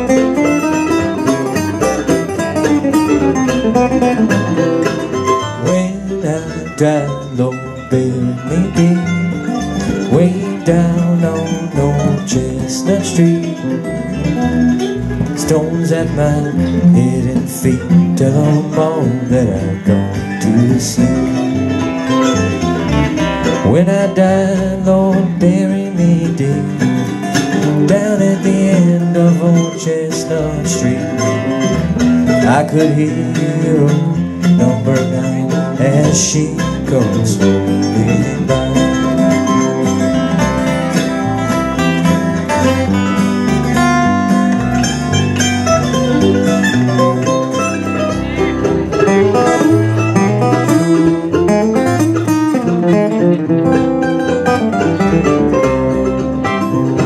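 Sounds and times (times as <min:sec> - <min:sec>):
acoustic string band playing: 0:00.0 - 0:57.0
plucked guitar melody: 0:00.0 - 0:57.0
walking bass line: 0:00.0 - 0:57.0.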